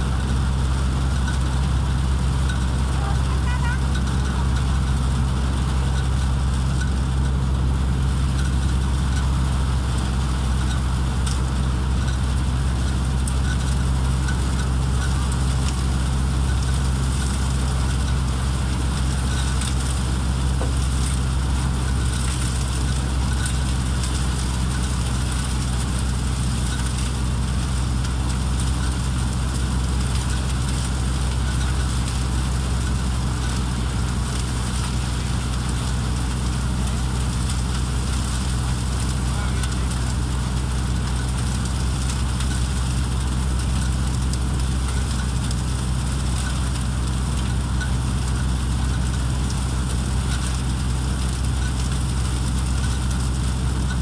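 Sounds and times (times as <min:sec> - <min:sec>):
thresher drive humming: 0:00.0 - 0:54.0
dry rustling hiss of plants: 0:07.8 - 0:54.0.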